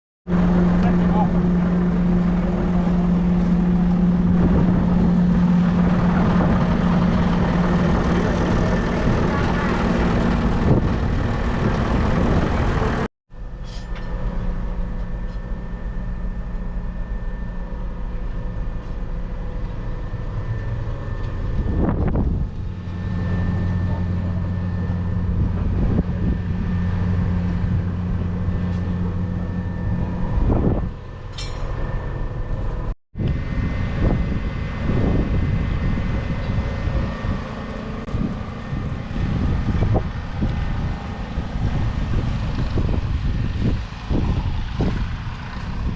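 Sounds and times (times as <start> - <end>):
tractor diesel engine running: 0.3 - 45.9.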